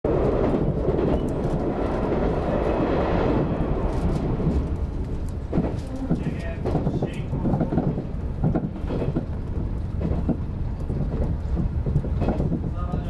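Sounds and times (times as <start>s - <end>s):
train wheels rumbling on rail: 0.1s - 13.0s.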